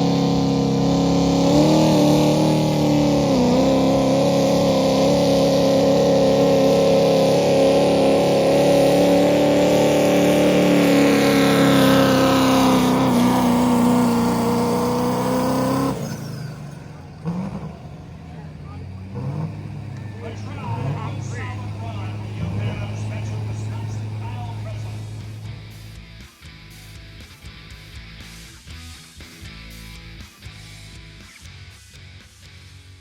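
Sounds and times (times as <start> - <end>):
diesel truck engine at high revs: 0.0 - 33.0.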